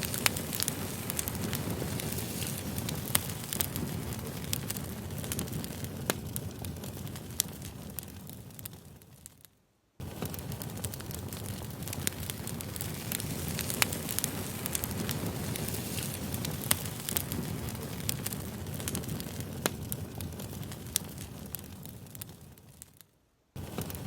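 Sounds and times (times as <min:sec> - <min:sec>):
campfire flames rushing: 0:00.0 - 0:24.0.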